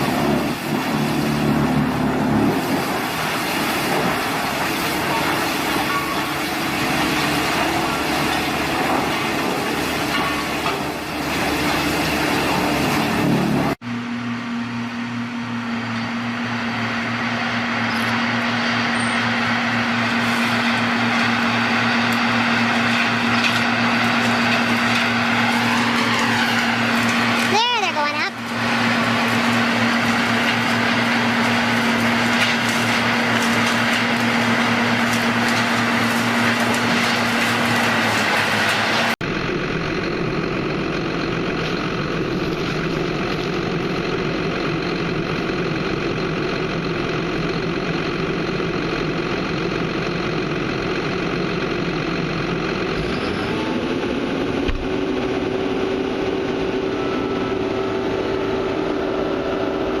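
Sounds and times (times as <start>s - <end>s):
heavy machinery engines running: 0.0s - 60.0s.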